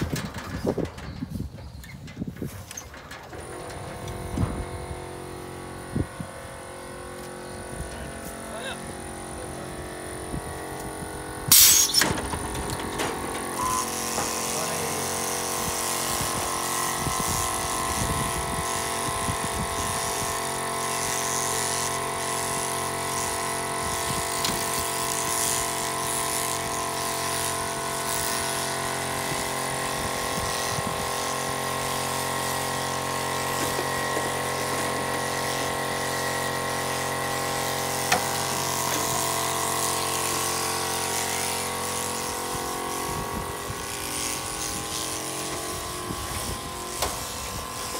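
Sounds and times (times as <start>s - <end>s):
shearing handpiece running: 3.5s - 47.9s.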